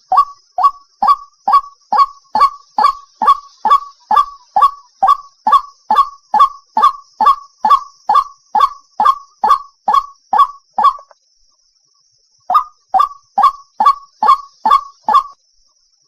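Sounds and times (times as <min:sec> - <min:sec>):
waterhen harsh calls: 0:00.0 - 0:11.1, 0:12.5 - 0:15.4.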